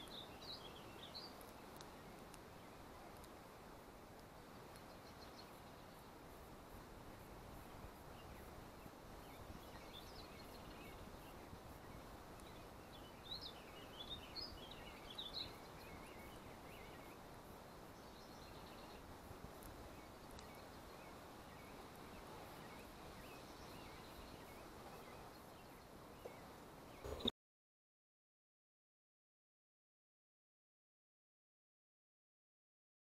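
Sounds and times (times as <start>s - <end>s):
faint birdsong: 0.0s - 27.3s
steady low hiss: 0.0s - 27.3s.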